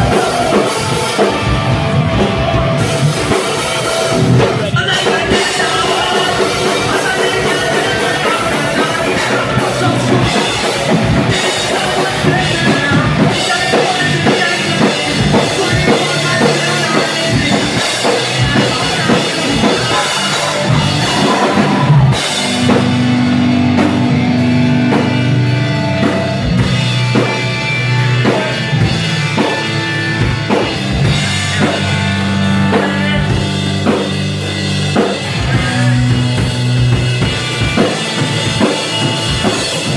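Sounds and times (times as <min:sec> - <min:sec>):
bass: 0:00.0 - 0:39.9
electric guitars: 0:00.0 - 0:39.9
hard-hit drum kit: 0:00.0 - 0:39.9.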